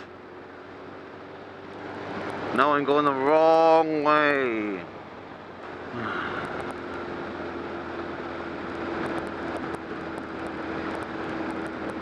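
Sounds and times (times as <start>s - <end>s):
motorcycle engine cruising: 0.0s - 12.0s
road noise: 0.0s - 12.0s.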